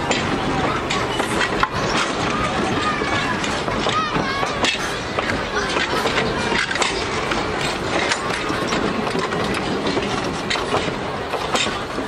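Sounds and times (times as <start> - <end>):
train wheels rumbling on rails: 0.0 - 12.0
wheels clicking over rail joints: 0.0 - 12.0.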